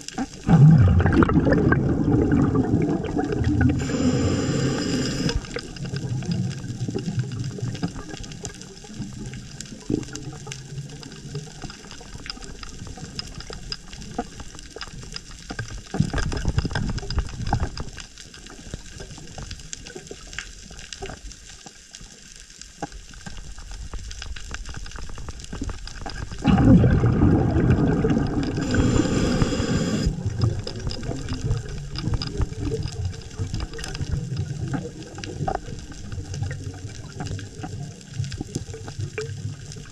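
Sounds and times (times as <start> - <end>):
underwater bubbles surging: 0.0 - 21.4, 23.0 - 39.9
fine underwater crackle: 0.0 - 39.9.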